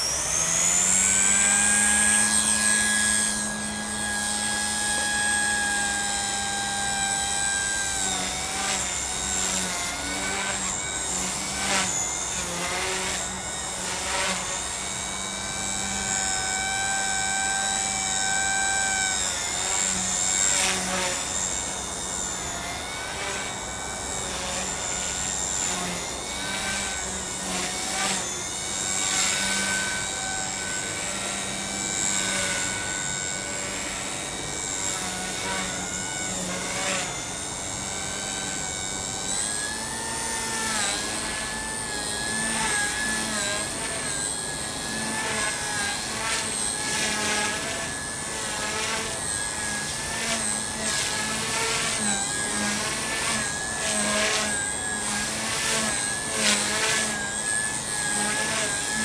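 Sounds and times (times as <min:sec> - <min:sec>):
rc helicopter rotor whine: 0:00.0 - 0:59.0.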